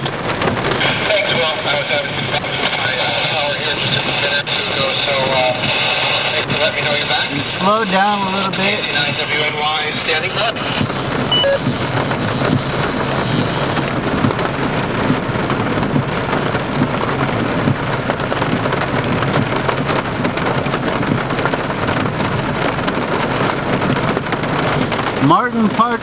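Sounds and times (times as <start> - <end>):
heavy rain with hail: 0.0 - 26.0.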